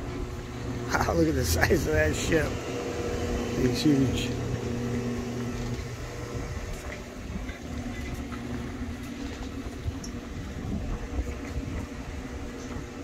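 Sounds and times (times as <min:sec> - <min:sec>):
idling machinery hum: 0:00.0 - 0:13.0.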